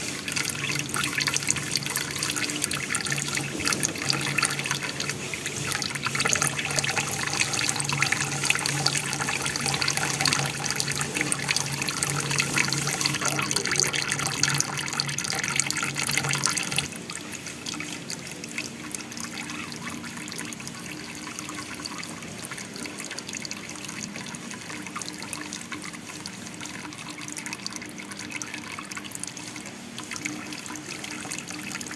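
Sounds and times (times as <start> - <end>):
water trickling down small waterfall: 0.0 - 31.9.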